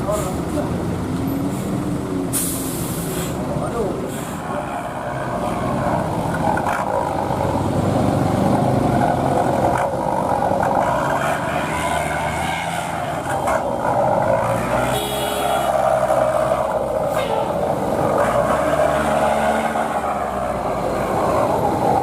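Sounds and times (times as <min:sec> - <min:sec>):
road noise: 0:00.0 - 0:22.0
truck diesel engines droning: 0:00.0 - 0:22.0.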